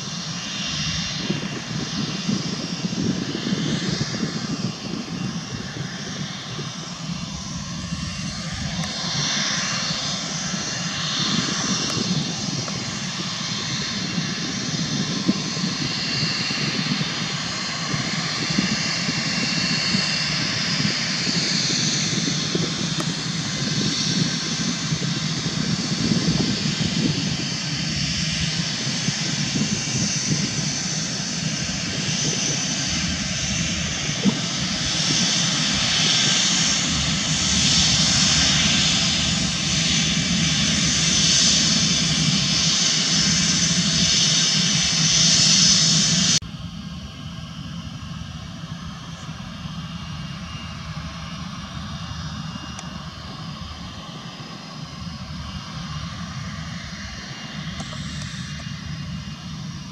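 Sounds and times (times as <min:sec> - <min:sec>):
high jet engine whine: 0:00.0 - 0:59.9
jet engines rumbling: 0:00.0 - 0:59.9.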